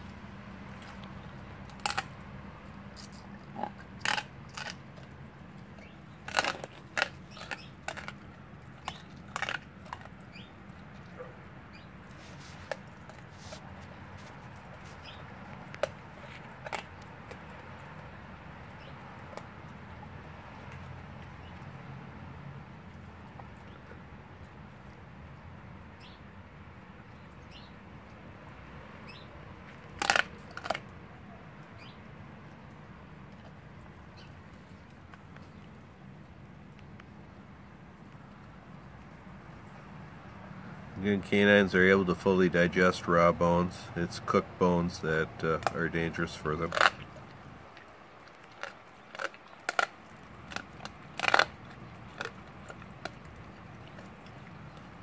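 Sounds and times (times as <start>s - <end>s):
dog crunching bones: 0.0s - 25.0s, 29.6s - 43.0s, 43.6s - 55.0s.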